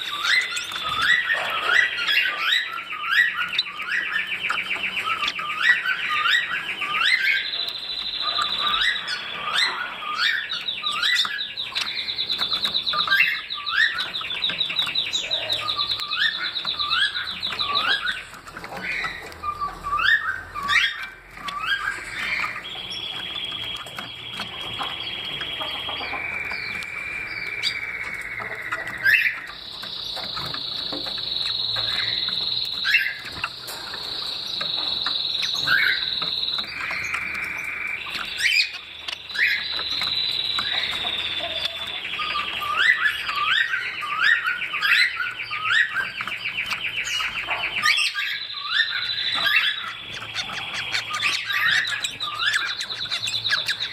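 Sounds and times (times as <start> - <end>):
bird chirps: 0.0 - 53.9
songbirds trilling: 0.0 - 53.9.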